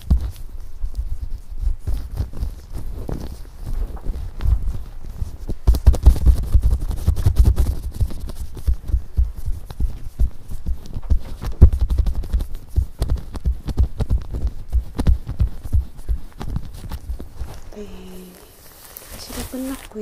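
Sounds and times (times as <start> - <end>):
gloved hand rubbing cream: 0.0 - 20.0.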